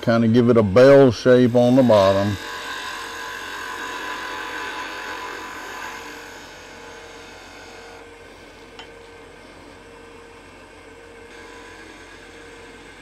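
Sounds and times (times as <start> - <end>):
turning tool cutting wood: 0.0 - 10.4, 11.0 - 13.0
lathe motor whine: 0.0 - 13.0.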